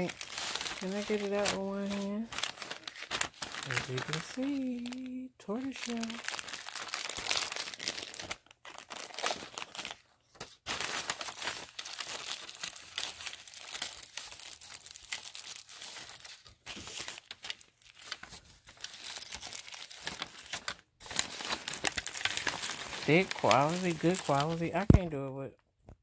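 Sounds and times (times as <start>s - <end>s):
plastic and tissue paper crinkling: 0.0s - 25.3s.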